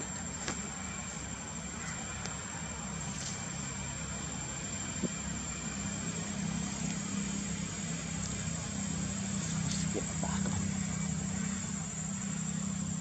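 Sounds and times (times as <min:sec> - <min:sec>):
low engine hum: 0:02.1 - 0:13.0.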